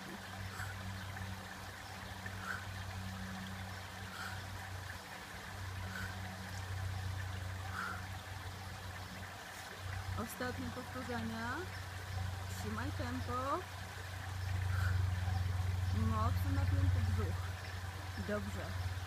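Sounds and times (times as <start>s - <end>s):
low hum: 0.0s - 19.0s
water trickling over pool edge: 0.0s - 19.0s.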